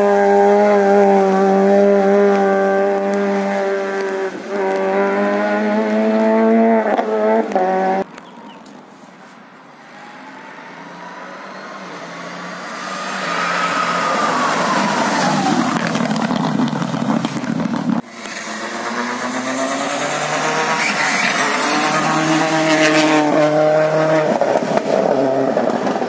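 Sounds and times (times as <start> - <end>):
rally car engine approaching: 0.0 - 8.1, 9.8 - 26.0
rally car passing at speed: 0.0 - 8.1, 9.8 - 26.0.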